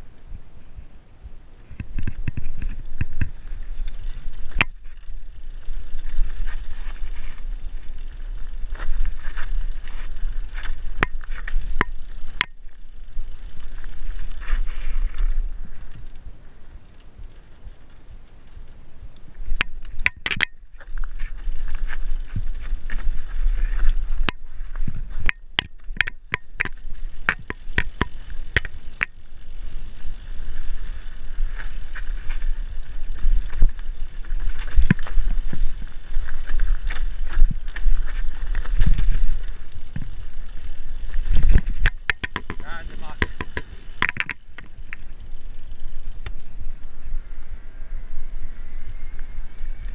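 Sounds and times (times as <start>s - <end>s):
tyre noise on dirt: 0.0s - 49.9s
wind rumble on microphone: 0.0s - 49.9s
bike clacks and rattles: 1.6s - 46.6s.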